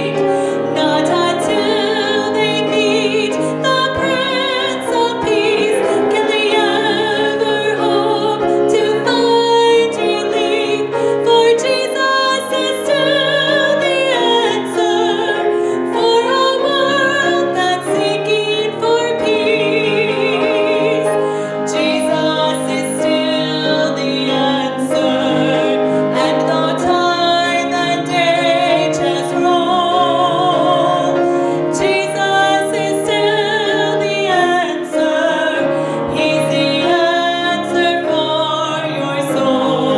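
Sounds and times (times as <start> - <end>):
piano accompaniment: 0.0 - 39.9
woman singing with vibrato: 0.0 - 39.9.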